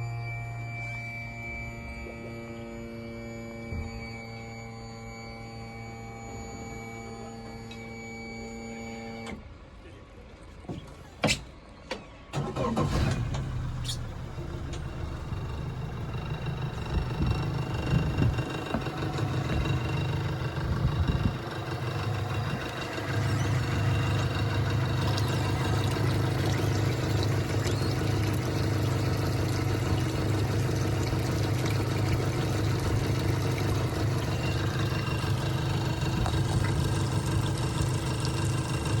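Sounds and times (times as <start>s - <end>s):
boat engine starting and idling: 0.0s - 39.0s.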